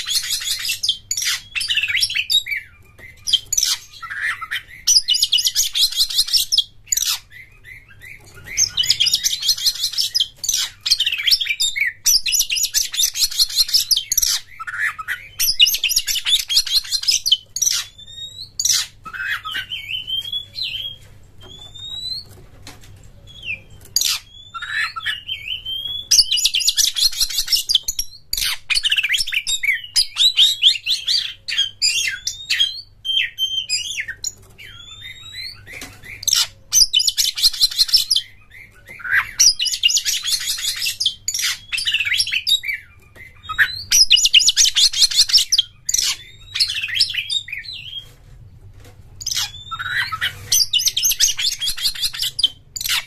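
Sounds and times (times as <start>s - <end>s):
bird singing with trills and whistles: 0.0s - 22.4s, 23.2s - 48.1s, 49.2s - 53.0s.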